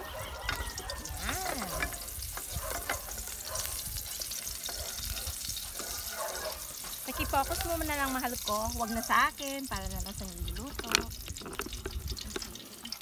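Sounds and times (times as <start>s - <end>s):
chilies sizzling in hot oil: 0.0s - 13.0s
wooden spatula stirring wok: 0.0s - 13.0s.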